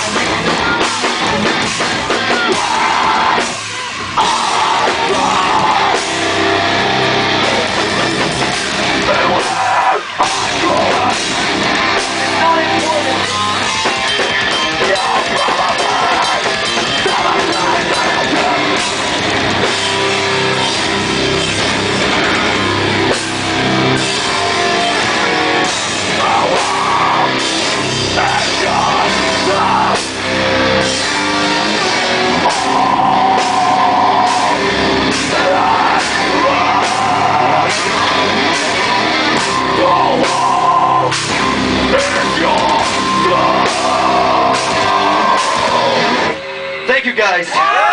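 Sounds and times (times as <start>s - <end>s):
live band playing heavy rock: 0.0s - 47.9s.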